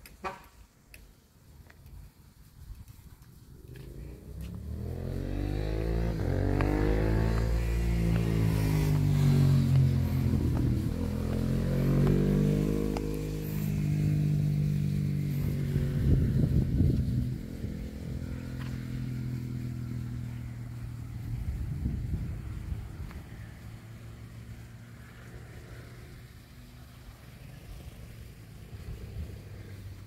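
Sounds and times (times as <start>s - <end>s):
vehicle engine running: 3.6s - 30.0s.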